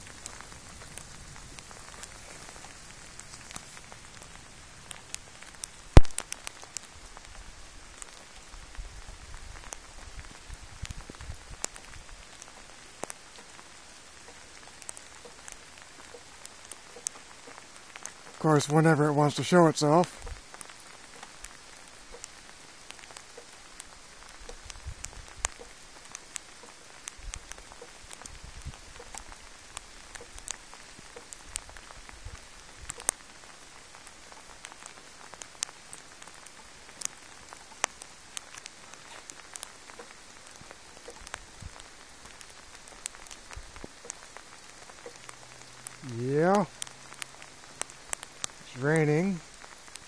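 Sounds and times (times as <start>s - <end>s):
raindrops ticking on surfaces: 0.0s - 50.0s
steady rain falling: 0.0s - 50.0s.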